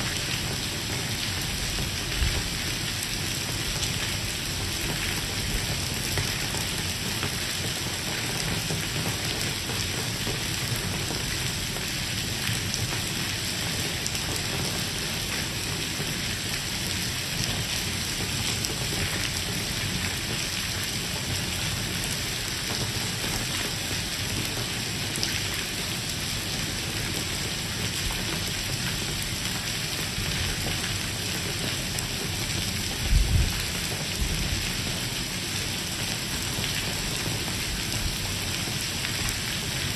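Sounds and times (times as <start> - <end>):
heavy rain on stone paving: 0.0 - 39.9
water running over street: 0.0 - 39.9.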